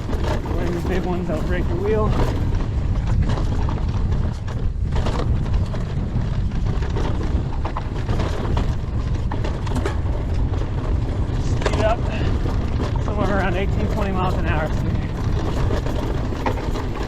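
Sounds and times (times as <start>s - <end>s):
bike rattling over rocks: 0.0s - 17.0s
wind buffeting microphone: 0.0s - 17.0s.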